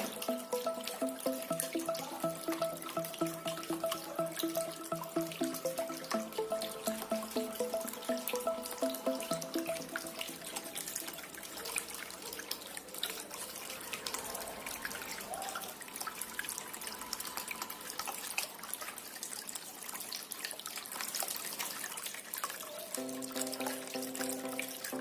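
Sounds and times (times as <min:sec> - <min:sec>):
fountain water trickling and splashing: 0:00.0 - 0:25.0
water drips: 0:00.0 - 0:25.0.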